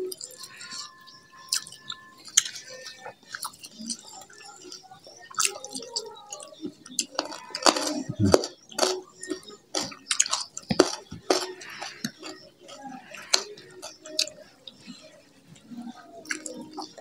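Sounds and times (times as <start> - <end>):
chewing and lip smacking: 0.0 - 17.0.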